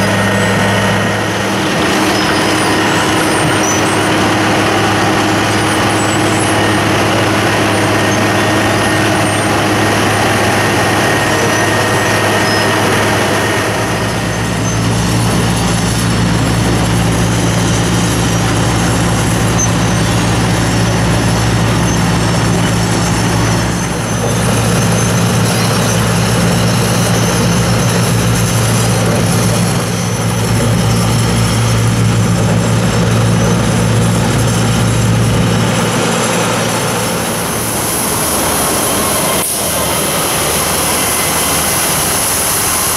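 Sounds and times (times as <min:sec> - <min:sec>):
dense grinding noise: 0:00.0 - 0:42.9
low diesel engine drone: 0:00.0 - 0:42.9
road broom sweeping pavement: 0:00.0 - 0:42.9.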